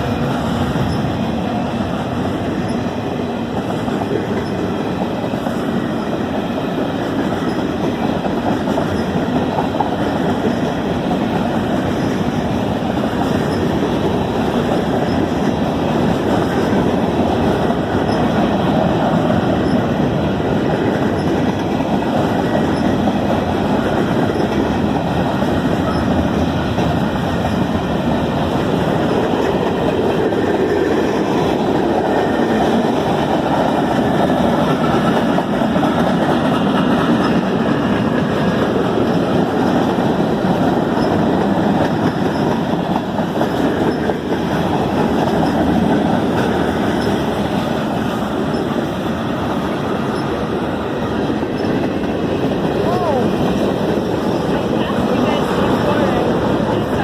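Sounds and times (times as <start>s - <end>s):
train cars rumbling over rails: 0.0s - 57.0s.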